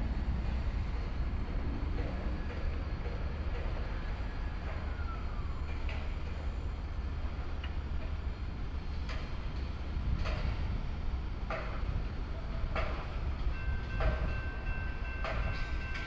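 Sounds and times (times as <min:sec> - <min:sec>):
city background noise: 0:00.0 - 0:16.0
distant locomotive rumble: 0:00.0 - 0:16.0.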